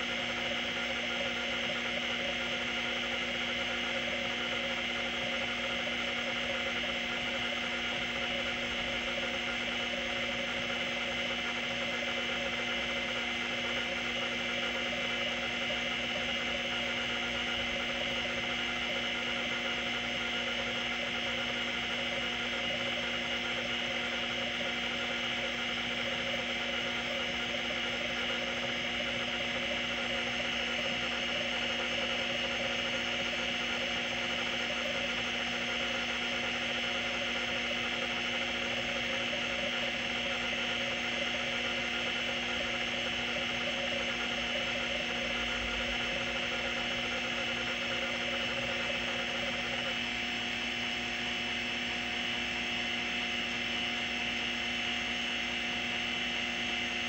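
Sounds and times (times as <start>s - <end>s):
hard drive whining and buzzing: 0.0s - 57.0s.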